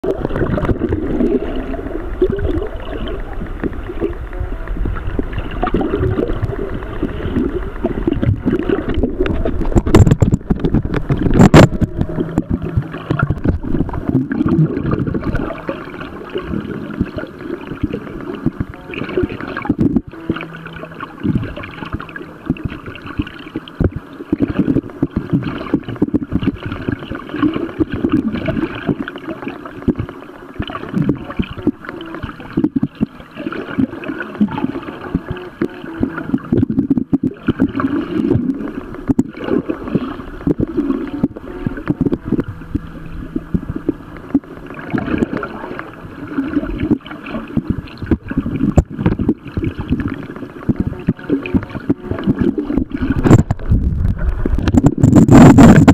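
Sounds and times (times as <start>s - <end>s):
muffled underwater sloshing and rumble: 0.0s - 55.9s.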